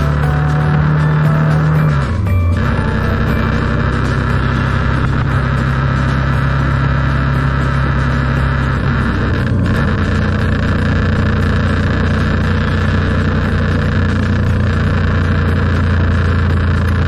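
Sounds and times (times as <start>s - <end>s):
vehicle running low hum: 0.0s - 17.0s.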